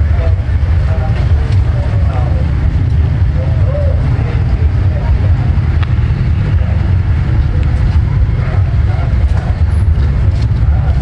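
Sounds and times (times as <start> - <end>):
faint voices: 0.0 - 11.0
low rumble: 0.0 - 11.0.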